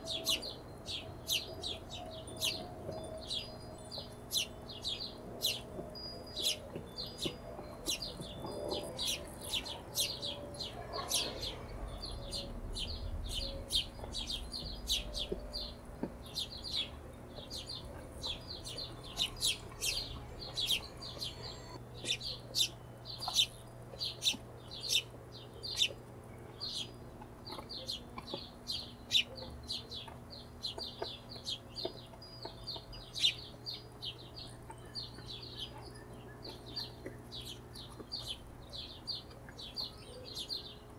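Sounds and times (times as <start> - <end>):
hummingbirds chipping: 0.0 - 40.9.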